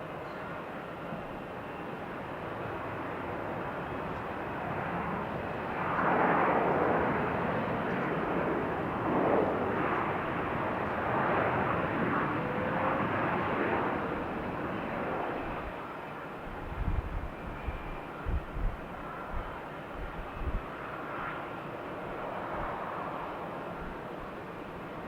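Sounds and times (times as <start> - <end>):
airplane engines roaring: 0.0 - 25.0.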